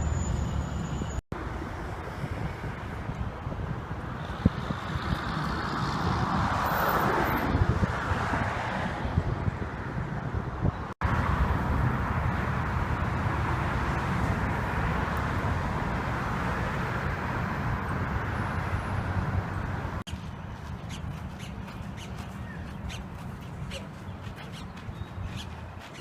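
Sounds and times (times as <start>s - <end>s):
wind buffeting microphone: 1.6s - 26.0s.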